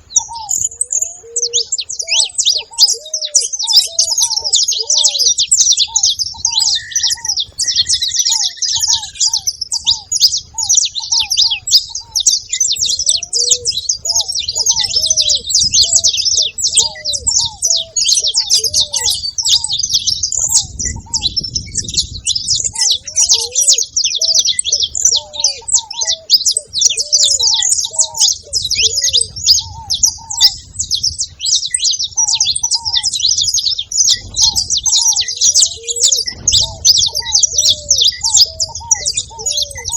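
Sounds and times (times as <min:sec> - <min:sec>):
dove cooing: 0:00.0 - 0:39.9
finches chirping and singing: 0:00.0 - 0:39.9.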